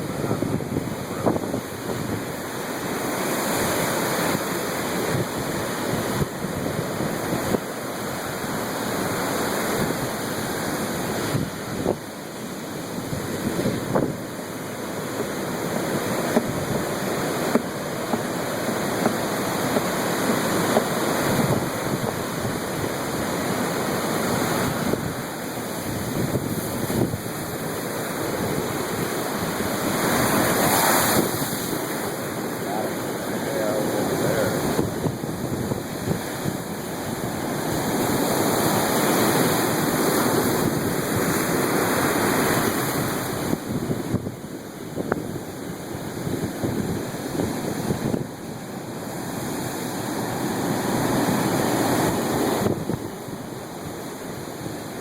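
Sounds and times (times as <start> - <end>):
waves breaking on shore: 0.0 - 55.0
wind buffeting microphone: 0.0 - 55.0.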